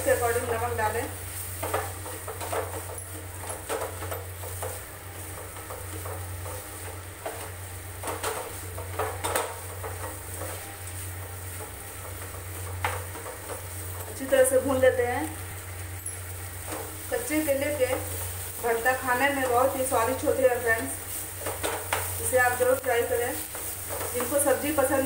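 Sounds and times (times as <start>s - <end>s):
wooden spatula scraping frying pan: 0.0s - 15.0s, 16.6s - 25.0s
food frying: 0.0s - 25.0s.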